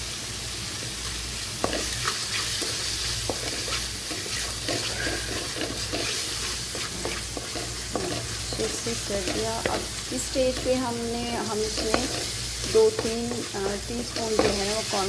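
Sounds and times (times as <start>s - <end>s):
sauce sizzling in oil: 0.0s - 15.0s
wooden spatula scraping pan: 1.6s - 15.0s.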